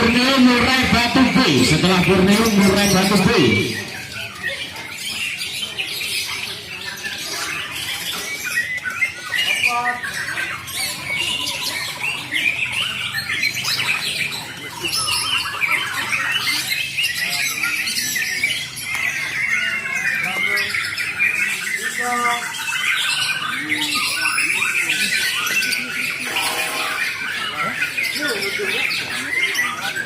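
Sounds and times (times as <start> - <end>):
songbirds singing and chattering: 0.0 - 30.0.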